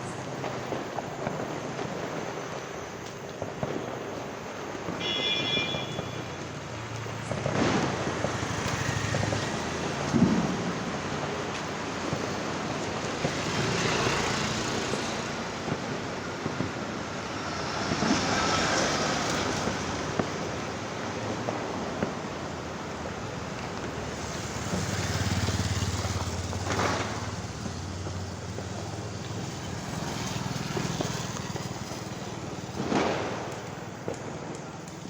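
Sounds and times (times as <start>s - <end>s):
firecrackers banging: 0.0s - 35.0s.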